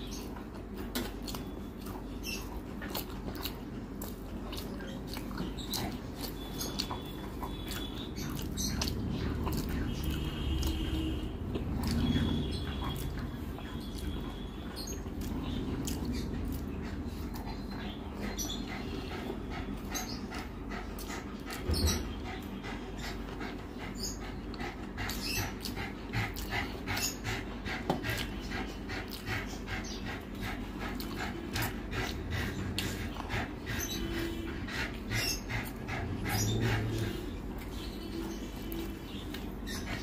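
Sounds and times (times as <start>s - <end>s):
wet chewing and lip-smacking: 0.0s - 40.0s.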